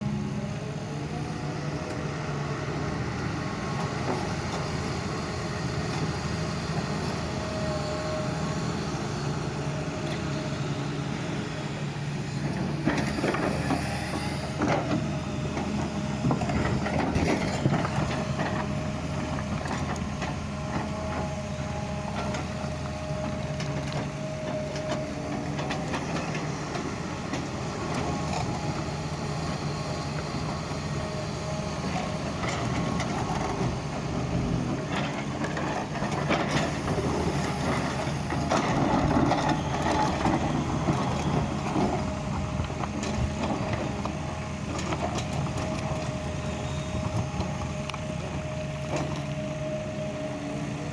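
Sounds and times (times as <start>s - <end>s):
excavator diesel engine: 0.0s - 50.9s.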